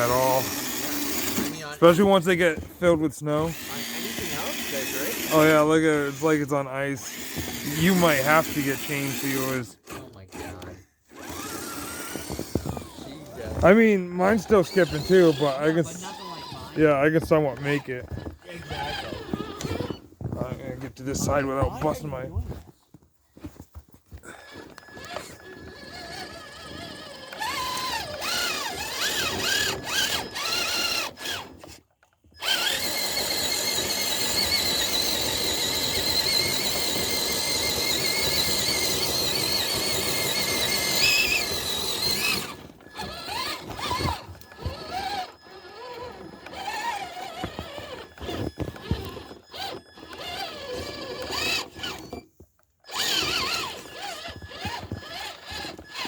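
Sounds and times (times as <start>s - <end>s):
electric motor whining: 0.0s - 22.0s, 24.3s - 31.8s, 32.4s - 52.3s, 52.9s - 56.0s.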